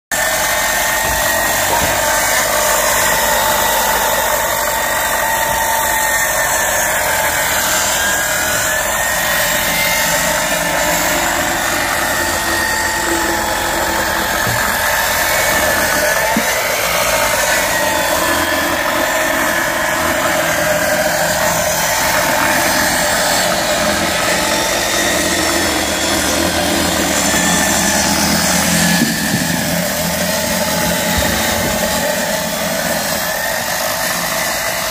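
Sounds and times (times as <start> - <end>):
circular saw ripping wood: 0.1 - 34.9.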